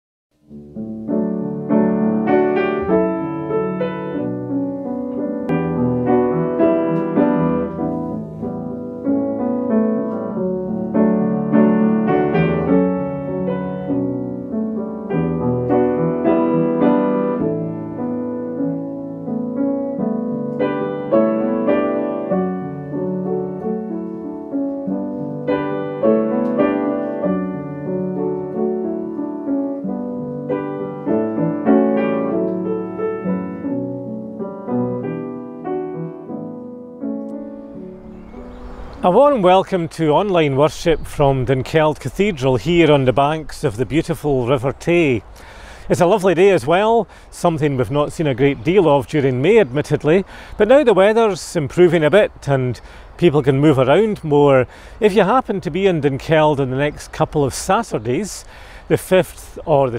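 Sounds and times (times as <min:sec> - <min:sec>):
solo piano music: 0:00.3 - 0:58.4.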